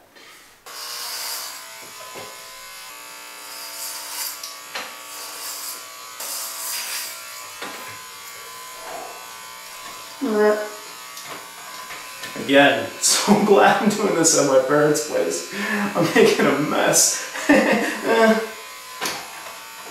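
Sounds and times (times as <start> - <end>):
electric hair clippers buzzing: 0.6 - 19.9.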